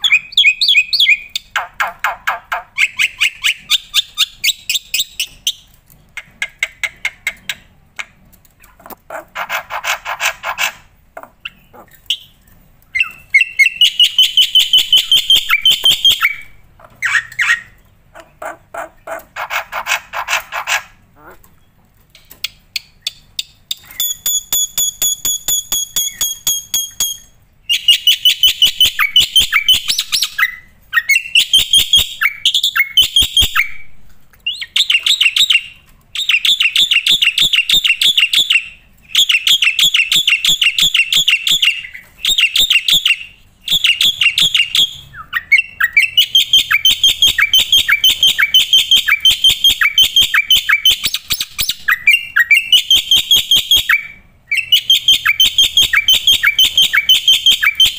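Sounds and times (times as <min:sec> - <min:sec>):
bird singing and chattering: 0:00.0 - 0:07.7, 0:11.4 - 0:21.7, 0:22.4 - 0:33.8, 0:34.4 - 0:57.9.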